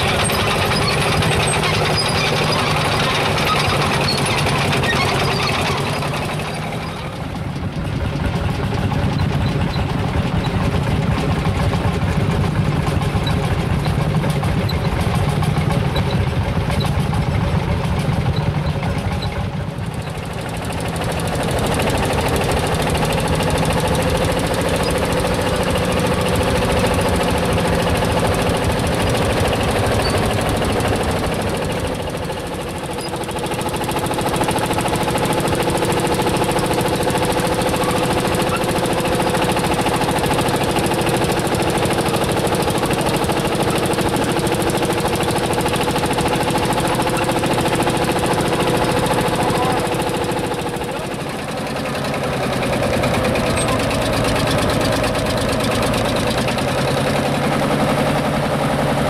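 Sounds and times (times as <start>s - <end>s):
two-stroke tractor engine running: 0.0s - 59.0s.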